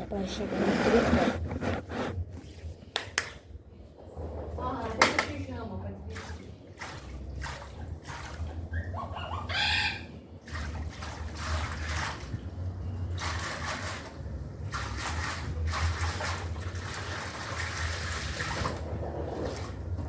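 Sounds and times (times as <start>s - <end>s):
water sloshing in washing machine: 0.0s - 3.0s, 4.0s - 20.0s.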